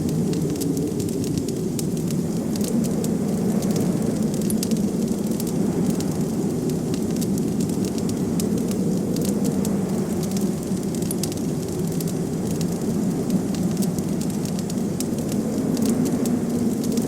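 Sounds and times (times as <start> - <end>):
blizzard wind rushing: 0.0 - 17.0
wood fire crackling and popping: 0.0 - 17.0.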